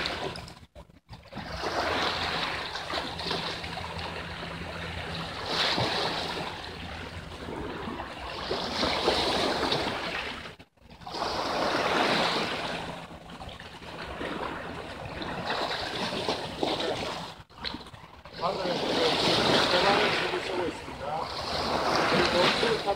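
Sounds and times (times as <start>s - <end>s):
waves splashing against rocks: 0.0s - 22.9s.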